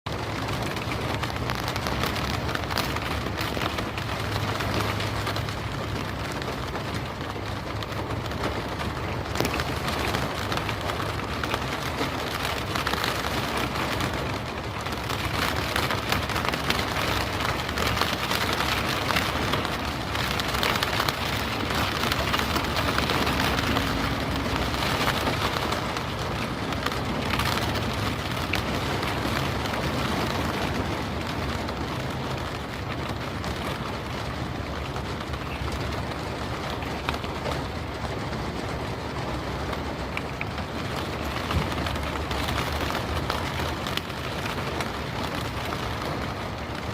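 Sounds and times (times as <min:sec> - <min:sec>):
rain on a car window: 0:00.1 - 0:46.9.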